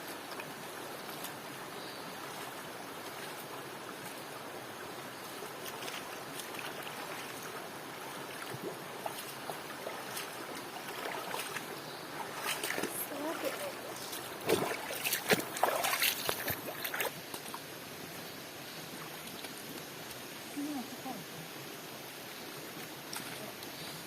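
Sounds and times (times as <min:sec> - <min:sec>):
stream flowing: 0:00.0 - 0:24.0.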